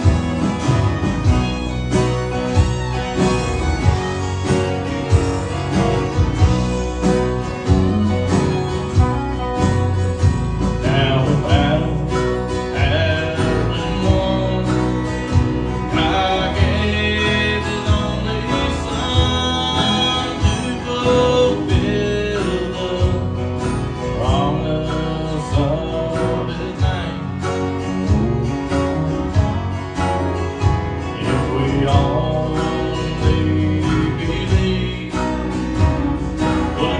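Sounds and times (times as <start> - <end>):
country music with guitar: 0.0 - 36.9.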